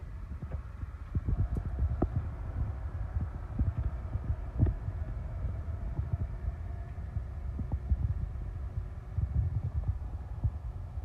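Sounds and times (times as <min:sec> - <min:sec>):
low rumble: 0:00.0 - 0:11.0
machinery hum: 0:00.0 - 0:11.0.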